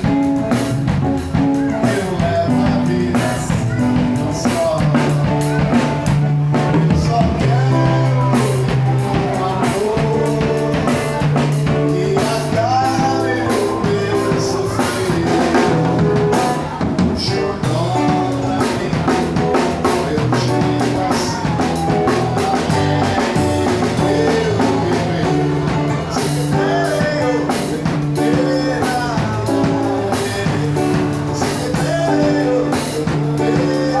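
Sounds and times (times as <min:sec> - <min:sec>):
band playing a song: 0:00.0 - 0:34.0
drum kit beating: 0:00.0 - 0:34.0
person singing: 0:00.0 - 0:34.0.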